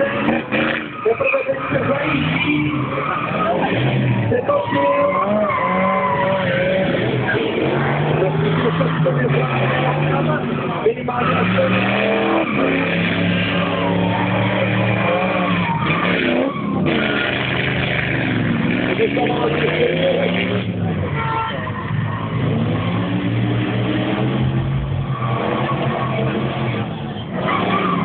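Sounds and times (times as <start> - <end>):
car engine revving hard: 0.0 - 21.0, 22.0 - 28.0
tyres skidding: 0.0 - 28.0.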